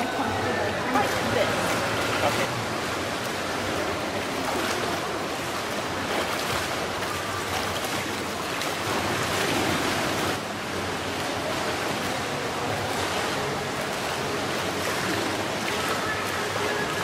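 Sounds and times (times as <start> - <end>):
water splashing from swimmers: 0.0 - 17.0.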